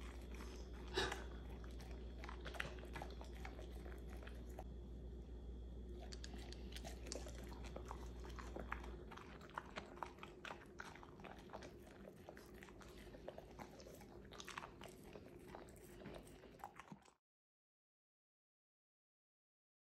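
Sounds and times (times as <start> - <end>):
dog chewing and licking: 0.0 - 4.7, 5.9 - 17.2.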